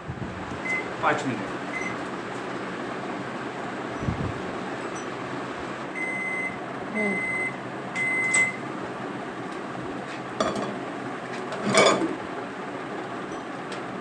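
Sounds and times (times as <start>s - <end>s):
microwave oven beeping: 0.4s - 14.0s.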